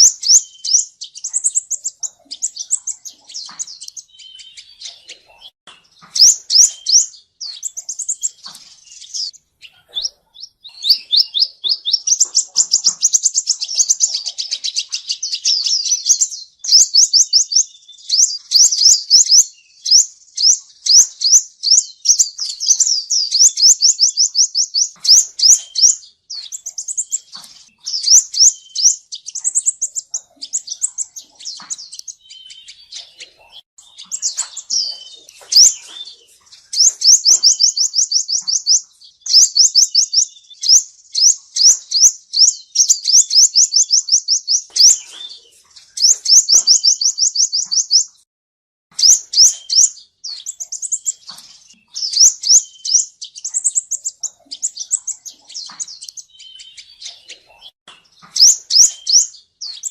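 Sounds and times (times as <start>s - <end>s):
bird singing high trills: 0.0s - 48.2s, 49.0s - 59.9s.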